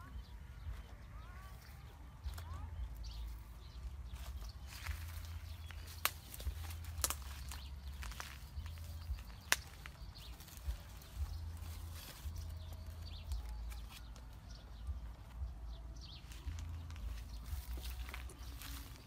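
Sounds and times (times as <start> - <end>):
dry leaves rustling and crackling: 0.0 - 15.5, 16.1 - 19.0
steady low rumble: 0.0 - 19.0.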